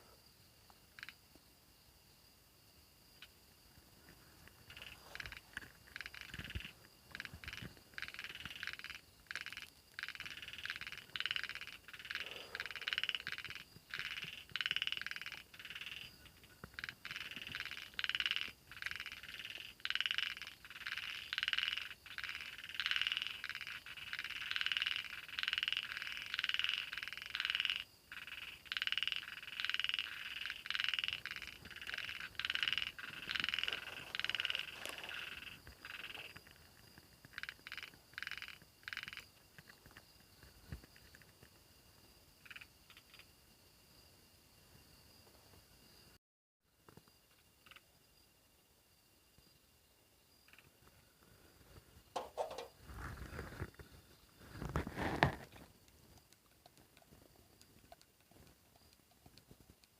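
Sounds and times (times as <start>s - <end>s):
frogs croaking: 0.0s - 1.9s, 3.0s - 43.5s, 46.9s - 48.4s, 49.4s - 59.9s.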